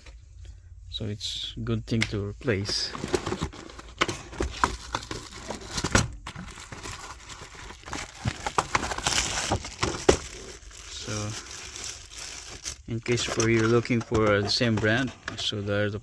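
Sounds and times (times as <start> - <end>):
air filter crinkling and crackling: 0.0 - 16.0.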